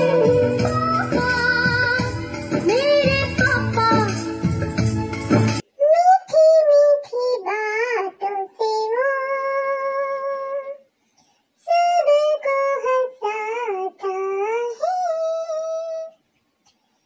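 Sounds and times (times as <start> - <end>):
high-pitched voice singing: 0.0 - 4.3, 5.6 - 10.9, 11.6 - 16.2.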